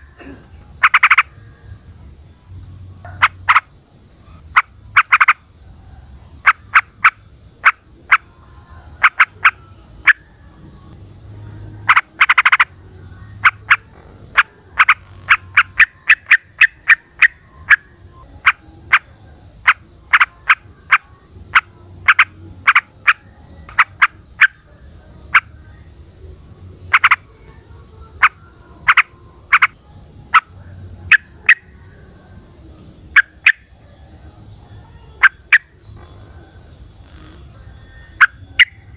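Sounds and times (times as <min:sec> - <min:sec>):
high insect buzz with trill: 0:00.0 - 0:38.9.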